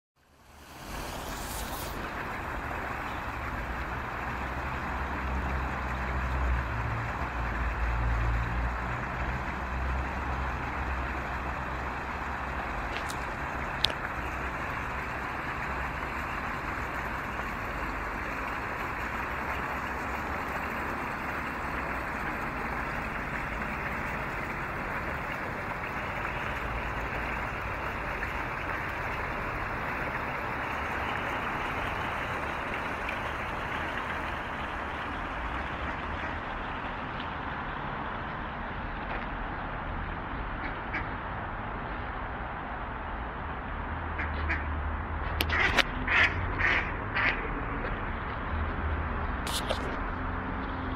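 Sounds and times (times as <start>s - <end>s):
road traffic rush: 0.2s - 50.9s.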